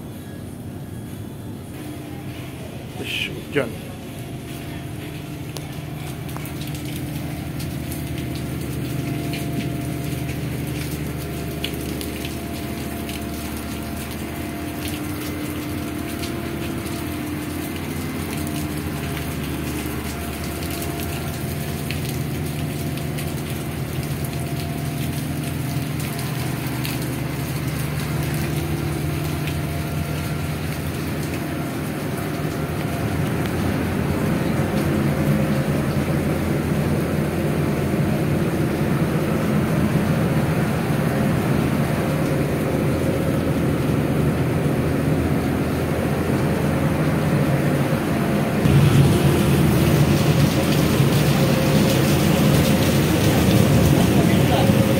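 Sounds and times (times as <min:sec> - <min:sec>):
ship engines droning: 0:00.0 - 0:54.9
sea wash: 0:01.8 - 0:54.9.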